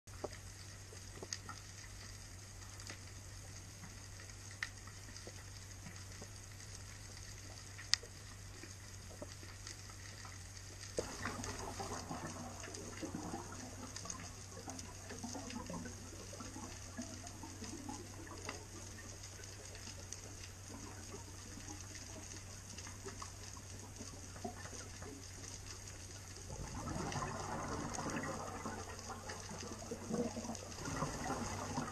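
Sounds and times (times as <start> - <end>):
low hum and hiss: 0.1 - 31.9
water bubbling and gurgling: 0.1 - 31.9.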